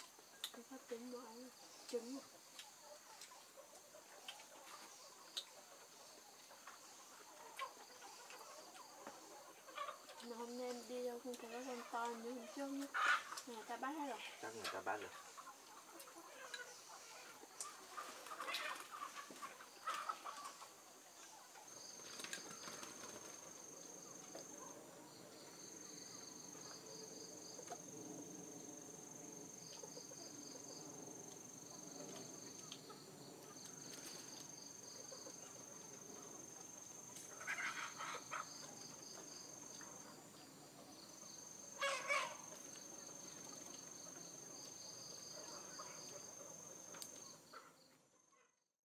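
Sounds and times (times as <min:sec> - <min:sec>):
insects trilling: 0:00.0 - 0:48.5
chickens clucking softly: 0:00.3 - 0:28.0, 0:29.4 - 0:48.5.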